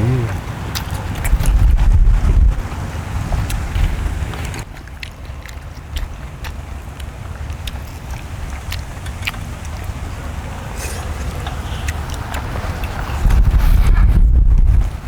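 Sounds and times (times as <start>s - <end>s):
people chewing food: 0.0s - 15.0s
wind rumble on microphone: 0.0s - 15.0s.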